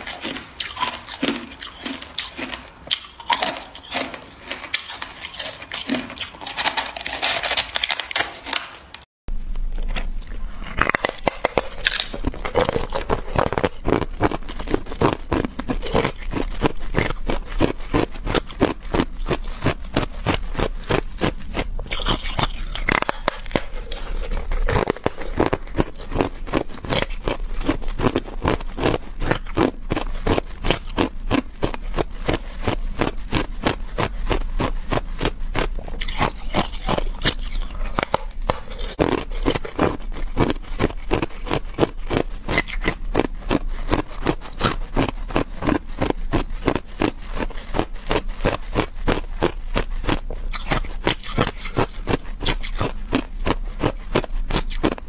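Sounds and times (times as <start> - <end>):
ice crunching while chewed: 0.0 - 55.0
steady low hum: 9.3 - 55.0.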